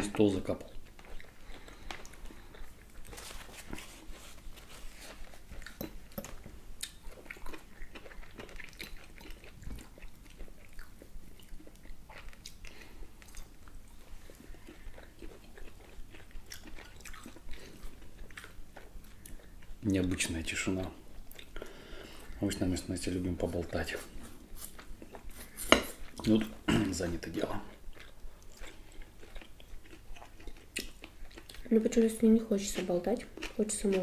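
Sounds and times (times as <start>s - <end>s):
chewing and wet mouth sounds: 0.4s - 34.0s.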